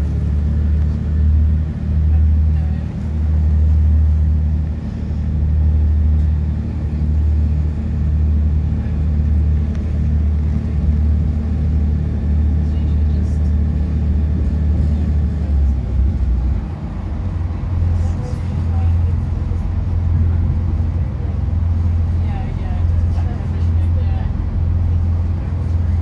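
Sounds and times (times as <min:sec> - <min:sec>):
train rumbling inside carriage: 0:00.0 - 0:26.0.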